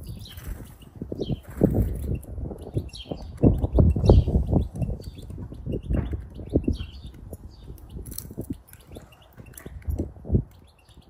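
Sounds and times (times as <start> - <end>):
low thumps and rumbling: 0.0 - 10.5
small birds chirping: 0.0 - 11.0.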